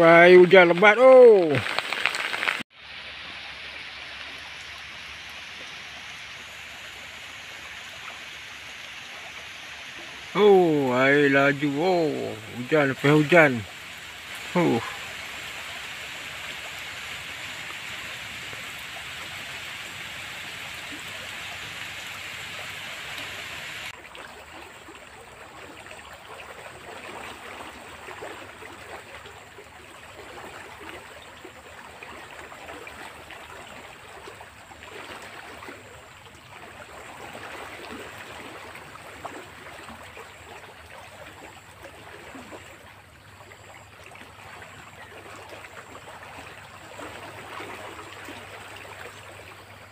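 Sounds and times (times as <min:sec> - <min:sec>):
water rushing in a ditch: 0:00.0 - 0:49.9.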